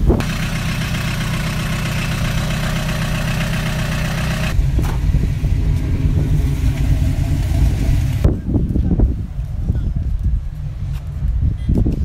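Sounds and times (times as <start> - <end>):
car engine idling: 0.0 - 11.7.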